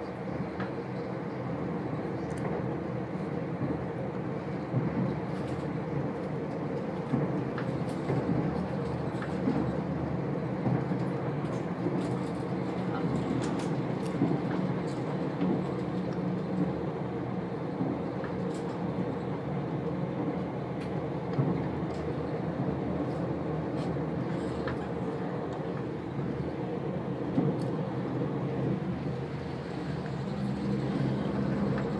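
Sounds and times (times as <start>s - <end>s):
train running noise inside carriage: 0.0s - 31.9s.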